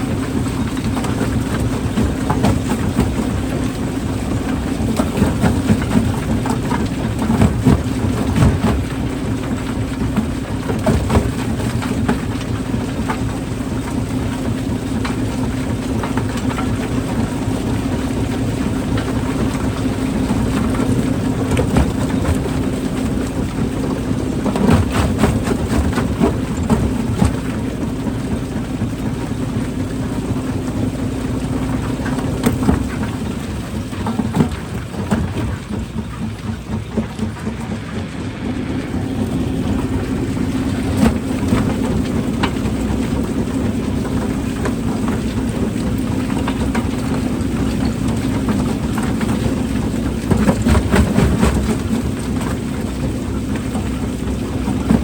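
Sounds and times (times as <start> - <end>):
rock-crushing machine humming: 0.0 - 55.0.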